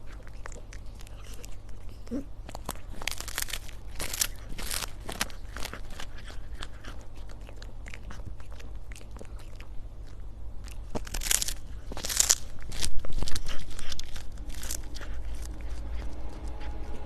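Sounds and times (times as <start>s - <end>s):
cat crunching food: 0.0s - 17.0s.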